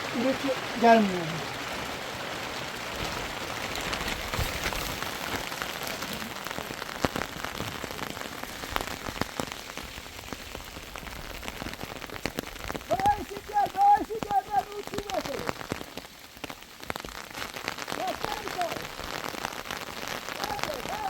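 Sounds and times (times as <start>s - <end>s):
raindrops ticking on a surface: 0.0s - 21.0s
steady rain falling: 0.0s - 21.0s.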